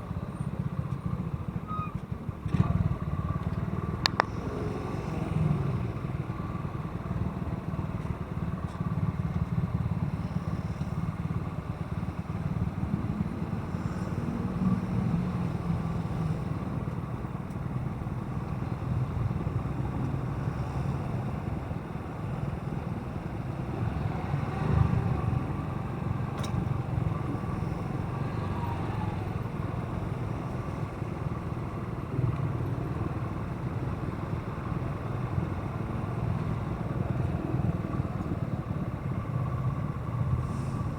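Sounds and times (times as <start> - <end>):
motorcycle engine and road noise: 0.0 - 40.9.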